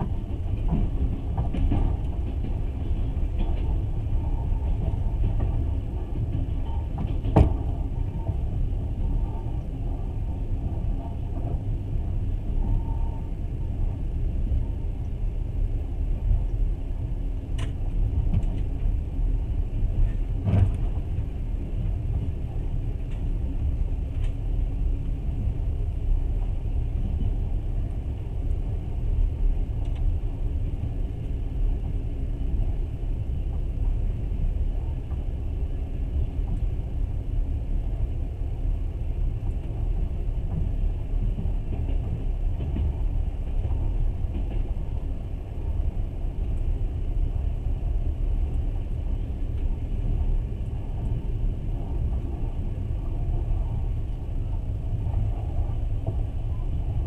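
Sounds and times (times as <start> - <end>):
train rumble inside carriage: 0.0 - 57.0.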